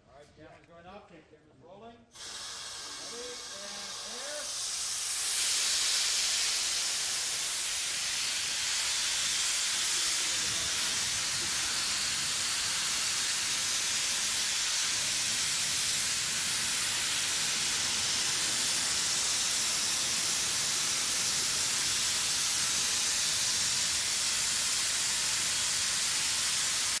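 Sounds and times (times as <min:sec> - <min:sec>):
wind machine air hiss: 0:02.0 - 0:27.0.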